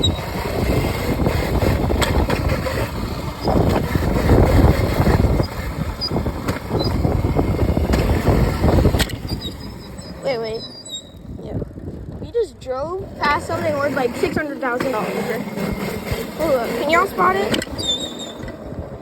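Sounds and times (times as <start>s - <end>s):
tyres rumbling: 0.0s - 19.0s
wind on microphone: 0.0s - 19.0s.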